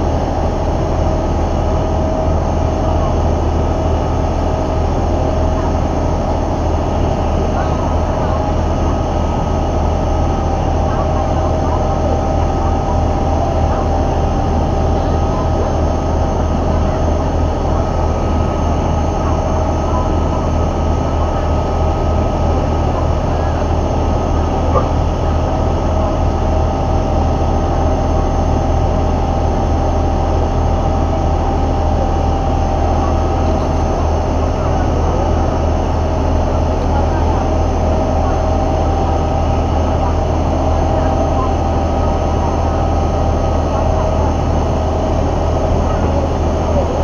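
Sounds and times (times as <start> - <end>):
boat engine droning: 0.0 - 47.0
water churning along hull: 0.0 - 47.0.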